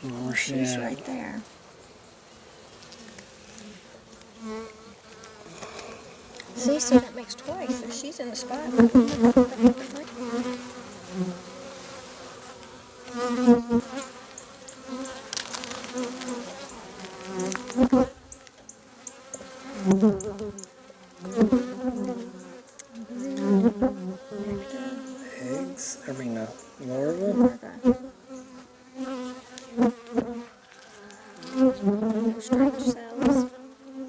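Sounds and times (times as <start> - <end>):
honey bees buzzing: 0.0 - 34.0.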